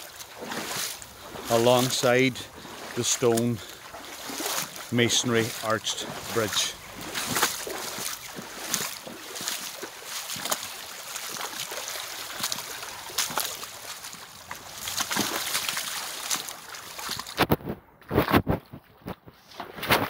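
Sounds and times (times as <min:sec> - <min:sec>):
river running over cobbles: 0:00.0 - 0:18.4
legs wading through water: 0:00.0 - 0:20.0.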